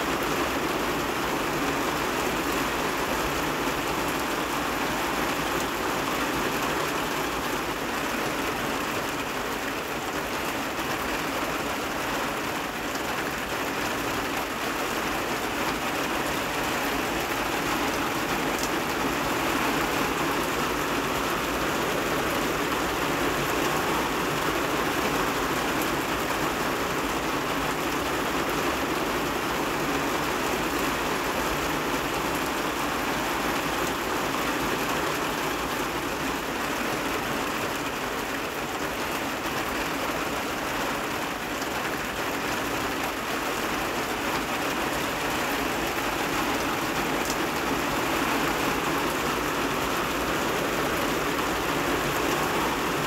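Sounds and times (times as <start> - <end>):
rain falling on a roof: 0.0 - 53.0.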